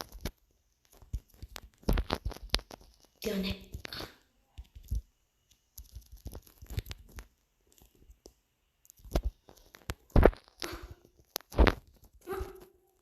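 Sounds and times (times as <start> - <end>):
handling clicks and crinkling: 0.0 - 13.0.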